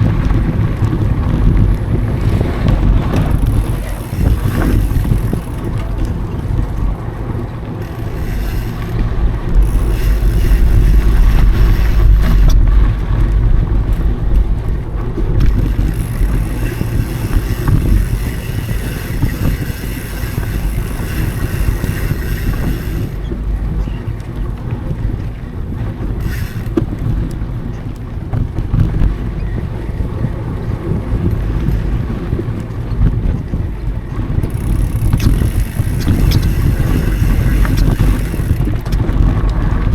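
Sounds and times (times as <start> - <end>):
bike tyres rumbling on dirt: 0.0 - 39.9
wind buffeting microphone: 0.0 - 39.9.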